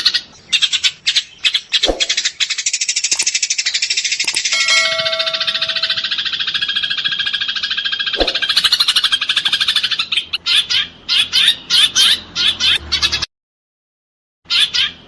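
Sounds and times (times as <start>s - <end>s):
sparrows chattering and chirping: 0.0s - 13.3s, 14.5s - 15.0s.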